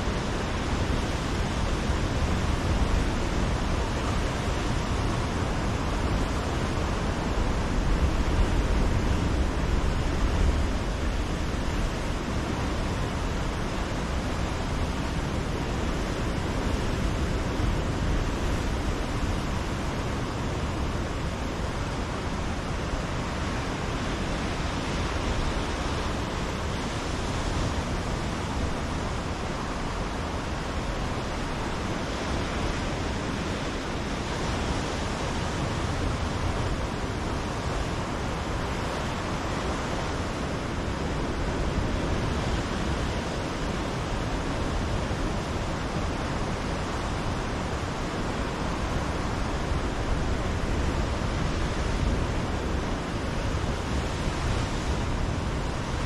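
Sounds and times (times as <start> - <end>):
surf breaking on rocky shore: 0.0 - 56.0.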